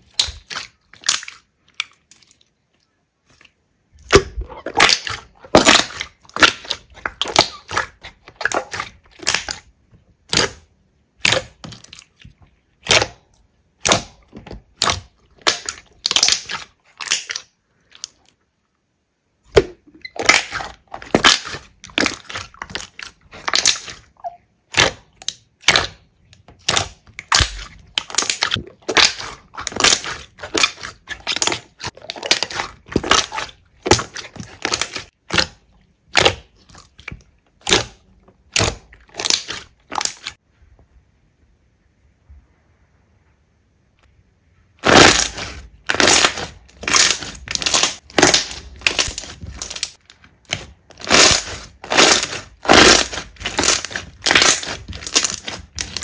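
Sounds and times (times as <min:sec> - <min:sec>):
hands squeezing slime: 0:00.0 - 0:13.1, 0:13.8 - 0:18.4, 0:20.0 - 0:40.4, 0:44.8 - 0:56.0.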